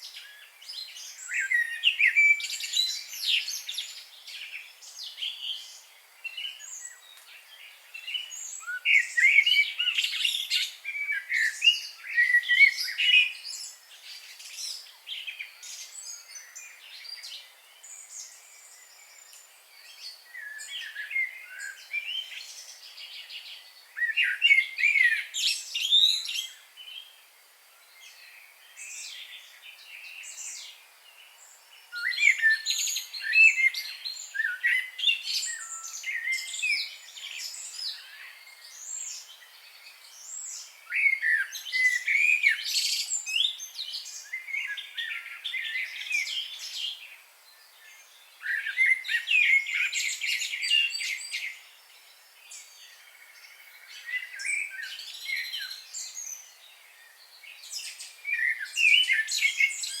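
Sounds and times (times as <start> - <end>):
songbirds chirping and singing: 0.0 - 60.0.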